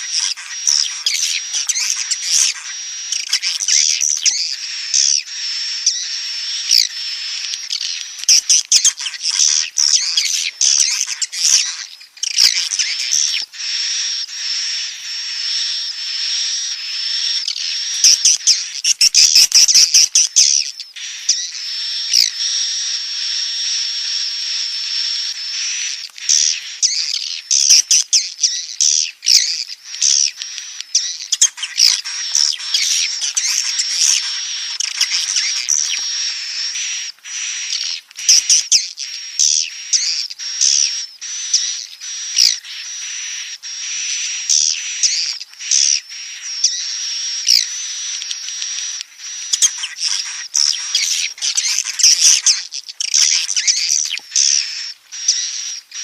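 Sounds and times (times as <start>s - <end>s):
bird chicks twittering: 0.0s - 56.0s
thin steady high tone: 0.0s - 56.0s.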